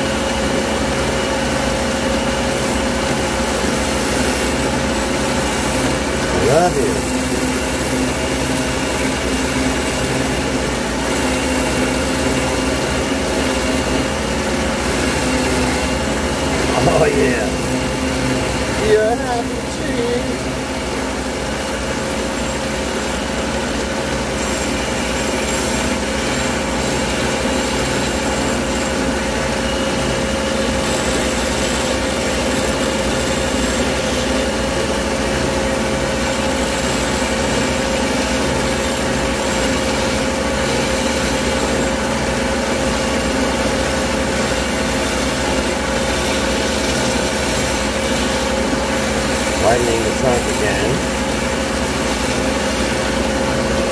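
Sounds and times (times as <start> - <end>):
ring saw cutting glass: 1.0 - 53.9.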